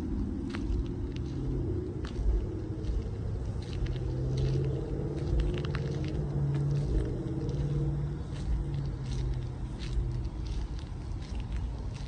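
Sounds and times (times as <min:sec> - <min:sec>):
vehicle engine running: 0:00.0 - 0:12.0
footsteps on gravel: 0:00.3 - 0:12.0.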